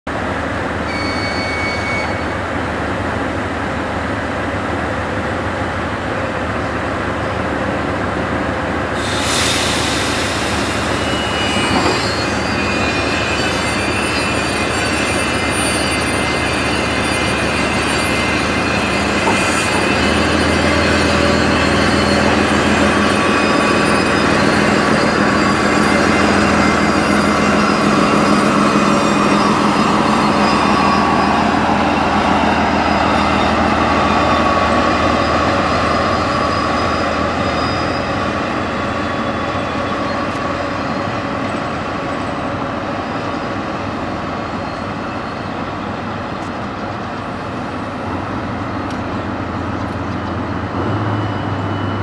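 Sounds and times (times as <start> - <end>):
train wheels on rail: 0.1 - 52.0
wheel squeal: 0.9 - 2.4, 9.0 - 47.2, 49.4 - 52.0.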